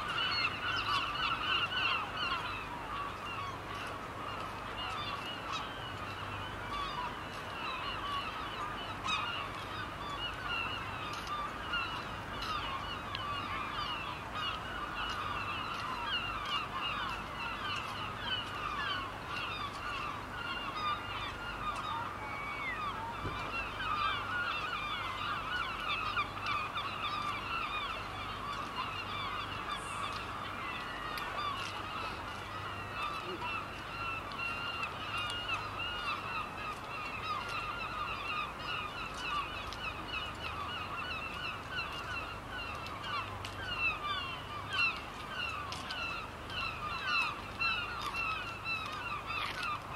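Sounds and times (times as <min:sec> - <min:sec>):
flock of birds chattering: 0:00.0 - 0:49.9.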